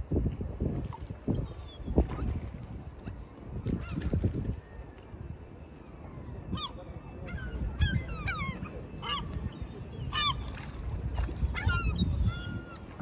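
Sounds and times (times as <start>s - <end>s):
gulls calling: 1.3s - 13.0s.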